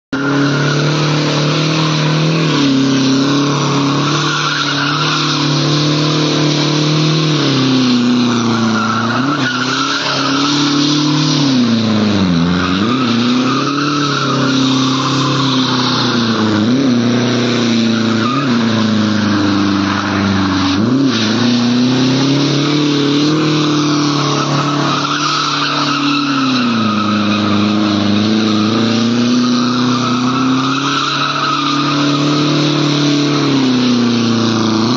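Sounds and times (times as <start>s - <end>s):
car engine revving high: 0.1s - 34.9s
tyres spinning and squealing: 0.1s - 34.9s.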